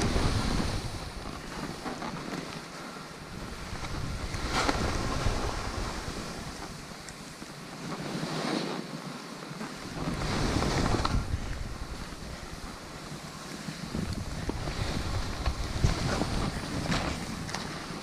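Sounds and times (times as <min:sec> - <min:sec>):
wind on microphone: 0:00.0 - 0:02.6, 0:03.2 - 0:08.8, 0:09.7 - 0:18.0
skis hissing through snow: 0:00.0 - 0:18.0.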